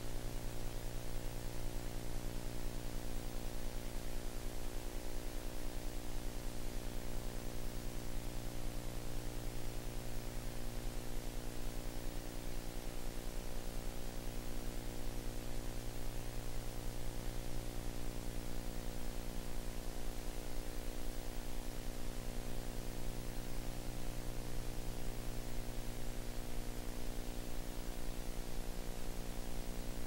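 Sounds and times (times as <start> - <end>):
electrical hum with buzzing: 0.0 - 30.0.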